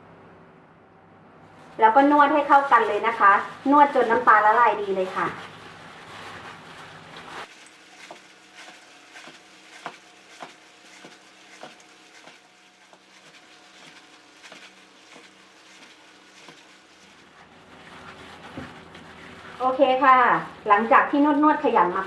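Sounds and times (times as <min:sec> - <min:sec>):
hands squishing wet dough: 0:02.2 - 0:21.4.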